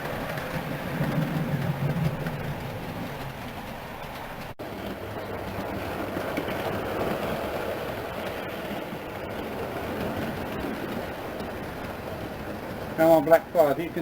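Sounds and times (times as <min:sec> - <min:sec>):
model train wheels clicking on rails: 0:00.0 - 0:14.0.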